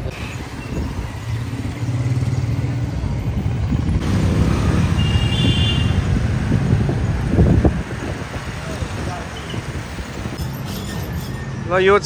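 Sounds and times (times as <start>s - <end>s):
cars passing: 0.0s - 12.0s
motorcycles passing: 0.0s - 12.0s.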